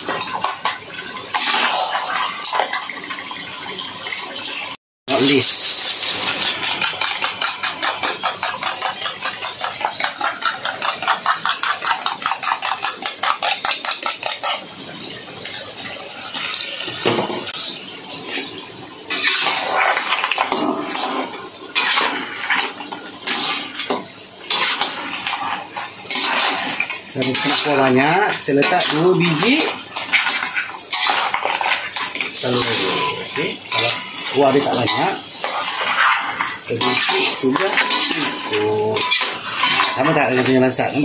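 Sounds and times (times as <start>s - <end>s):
sauce bubbling in wok: 0.0s - 41.0s
metal spatula scraping wok: 5.1s - 15.2s, 17.0s - 41.0s.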